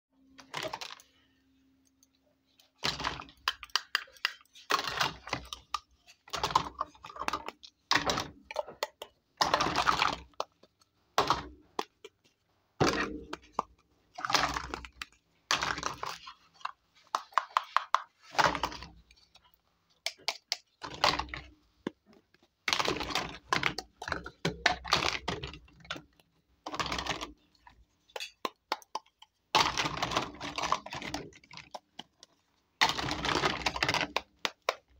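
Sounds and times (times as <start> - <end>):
plastic toys clicking and clattering: 0.3 - 34.9.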